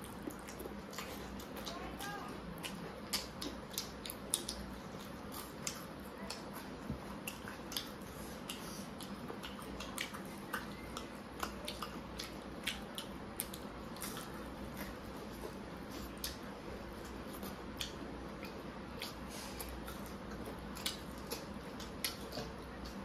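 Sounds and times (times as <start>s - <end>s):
fingers squishing food: 0.0s - 23.0s
wet chewing: 0.0s - 23.0s
lip smacks: 2.5s - 23.0s.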